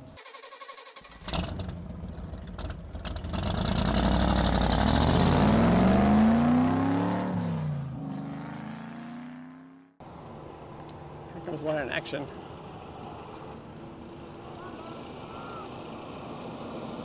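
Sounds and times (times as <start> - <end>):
vehicle engine accelerating: 1.2 - 10.4, 12.2 - 17.0.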